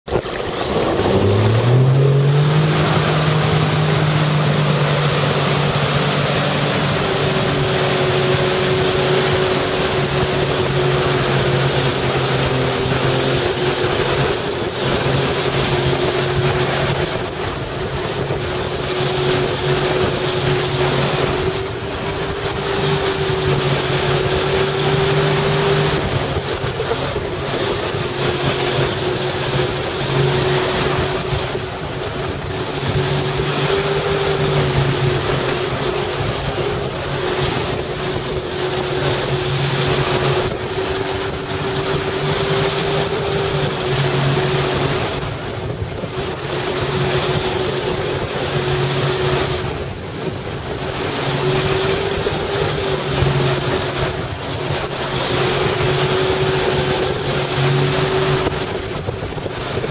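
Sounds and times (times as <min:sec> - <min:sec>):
boat engine accelerating: 0:00.0 - 0:59.9
rushing water: 0:00.0 - 0:59.9
wind: 0:00.0 - 0:59.9.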